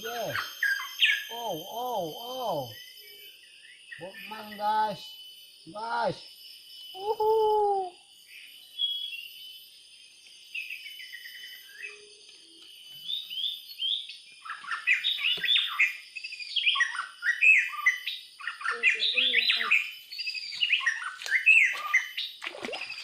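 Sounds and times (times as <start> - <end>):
faint high whine: 0.0 - 23.0
songbirds chirping and trilling: 0.0 - 23.0.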